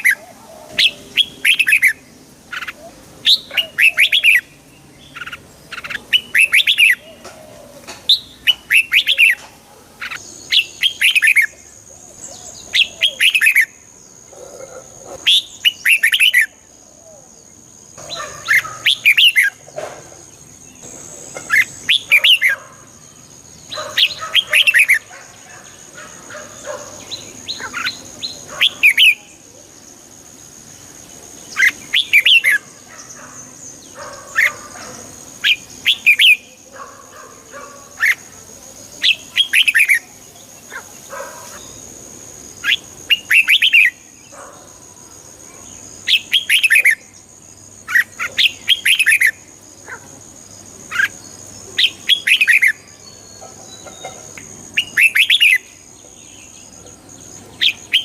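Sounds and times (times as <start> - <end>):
bird singing warbled phrases: 0.0 - 58.0.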